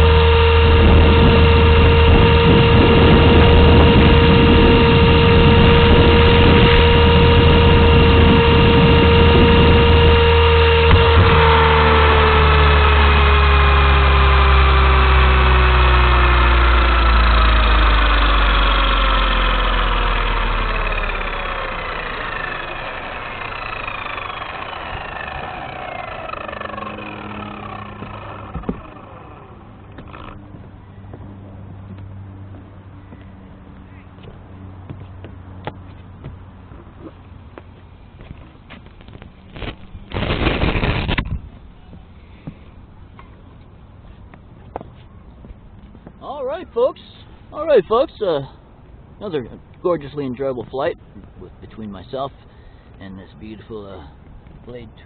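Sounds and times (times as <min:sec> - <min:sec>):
helicopter rotor whine: 0:00.0 - 0:44.6, 0:45.2 - 0:55.0.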